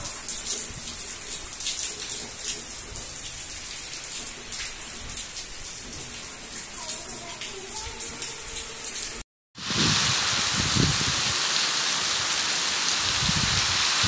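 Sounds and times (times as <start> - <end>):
heavy rain on roofs and paving: 0.0 - 14.0.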